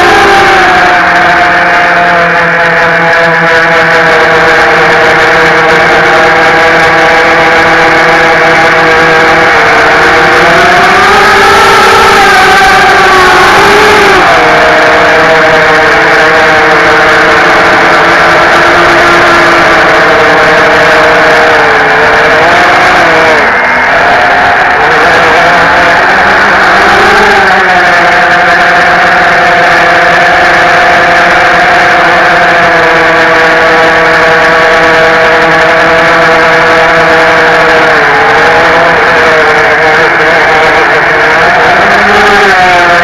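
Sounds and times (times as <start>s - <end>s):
quadcopter motors whining: 0.0s - 43.0s.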